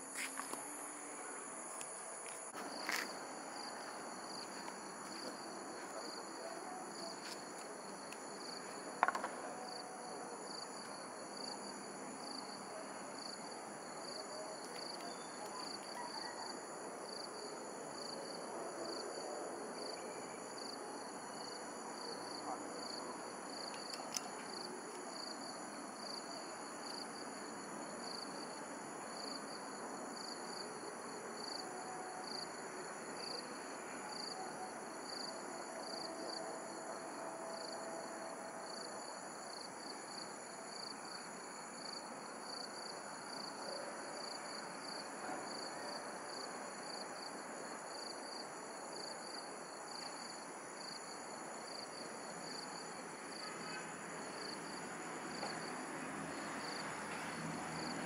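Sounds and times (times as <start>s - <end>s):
night insects chirping: 0.0s - 58.0s.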